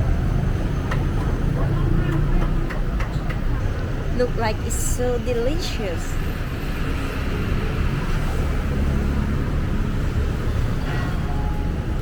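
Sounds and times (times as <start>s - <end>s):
traffic rumble on city road: 0.0s - 12.0s.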